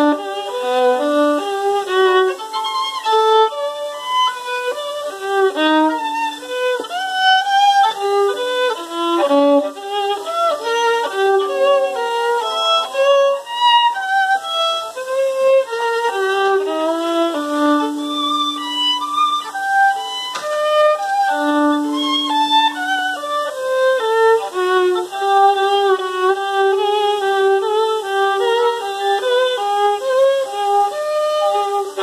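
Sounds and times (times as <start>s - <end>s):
violin melody: 0.0s - 32.0s.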